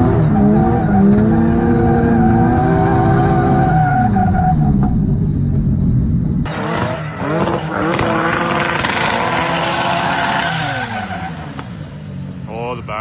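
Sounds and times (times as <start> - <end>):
car engine revving: 0.0 - 12.9
tyre and road noise: 0.0 - 13.0.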